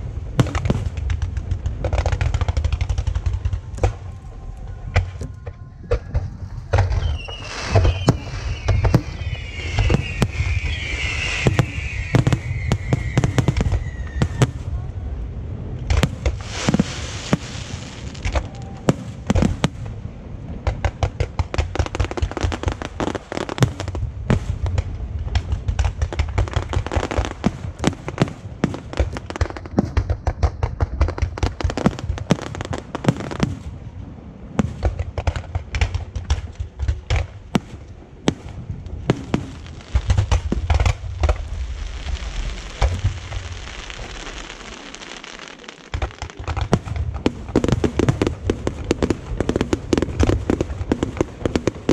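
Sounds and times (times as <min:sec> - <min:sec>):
firework cracks and crackling: 0:00.0 - 0:14.9, 0:15.6 - 0:51.9
deep firework booms: 0:00.0 - 0:51.9.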